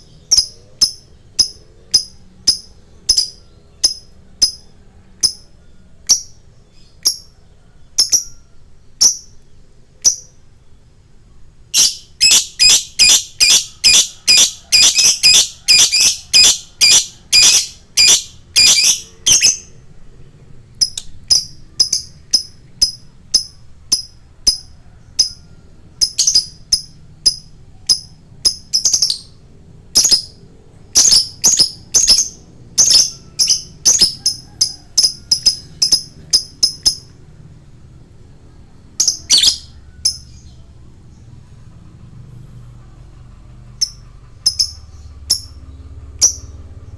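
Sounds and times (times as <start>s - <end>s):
lovebird chirping: 0.0s - 19.9s, 20.8s - 37.2s, 38.5s - 41.5s, 43.7s - 46.9s.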